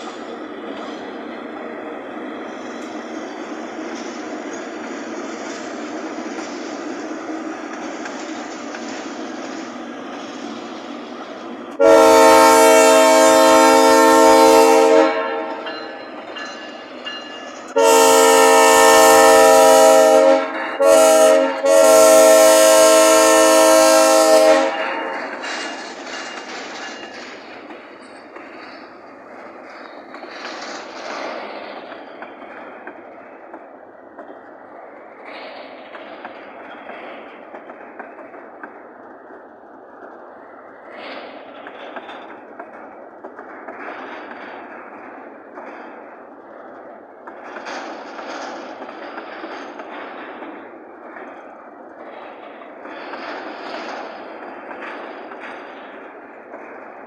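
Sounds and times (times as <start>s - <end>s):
freight train rumbling past: 0.0s - 57.0s
rail clicks: 0.0s - 57.0s.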